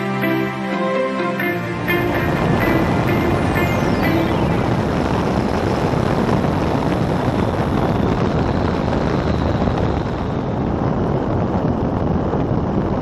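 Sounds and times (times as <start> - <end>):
wind buffeting microphone: 1.8 - 13.0.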